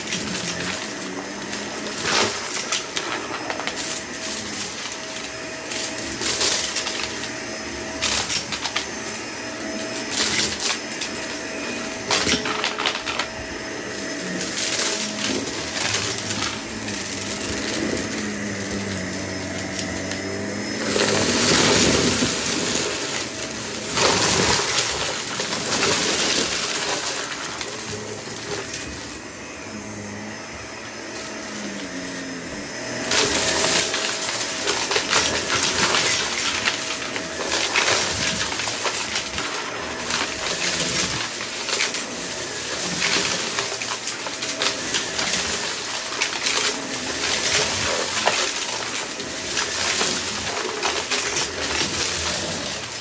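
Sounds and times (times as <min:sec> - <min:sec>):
debris rattling through vacuum: 0:00.0 - 0:53.0
vacuum motor whine: 0:00.0 - 0:53.0.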